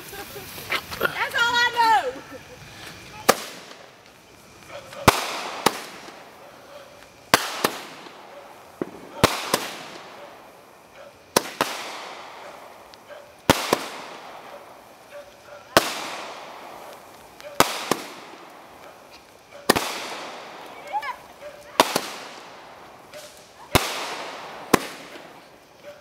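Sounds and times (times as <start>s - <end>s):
fireworks bangs: 0.0s - 26.0s
fireworks hiss: 0.0s - 26.0s.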